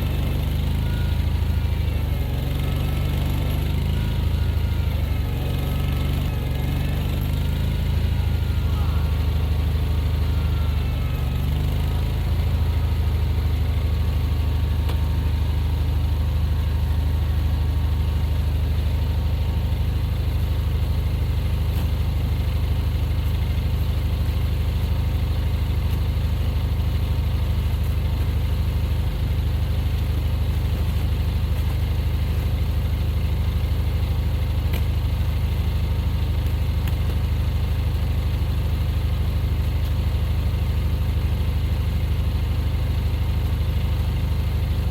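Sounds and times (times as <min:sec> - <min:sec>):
vehicle engine idling: 0:00.0 - 0:44.9.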